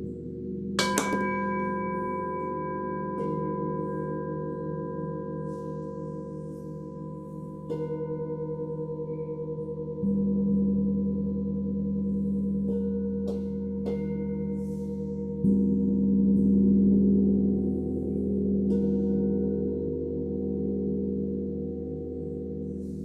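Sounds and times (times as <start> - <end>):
singing bowls ringing: 0.8 - 23.0.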